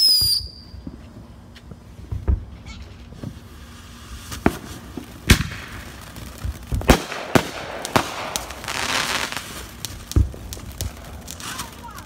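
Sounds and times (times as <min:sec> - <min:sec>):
firework bangs: 0:00.0 - 0:01.3, 0:02.0 - 0:12.0
crackling sparks: 0:00.0 - 0:12.0
firework fountain hissing: 0:01.8 - 0:12.0.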